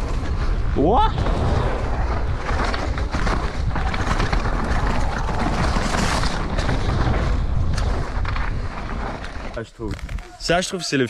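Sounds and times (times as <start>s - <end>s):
tyre roar on dirt: 0.0s - 9.6s
bike clattering over bumps: 0.0s - 10.2s
wind buffeting microphone: 0.0s - 10.5s.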